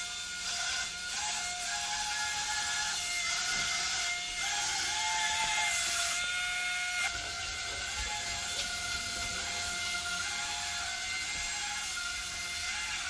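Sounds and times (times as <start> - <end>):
suction fan whining: 0.0 - 13.0
wavering whir and hiss: 0.0 - 13.0.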